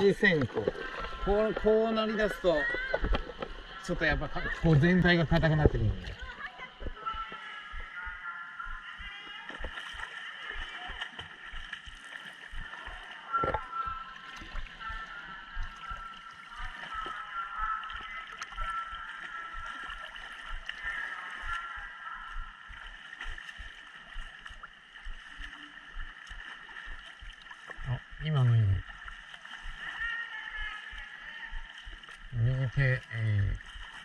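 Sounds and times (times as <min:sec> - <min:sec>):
swimming strokes splashing: 0:00.0 - 0:34.0
water lapping and sloshing: 0:00.0 - 0:34.0.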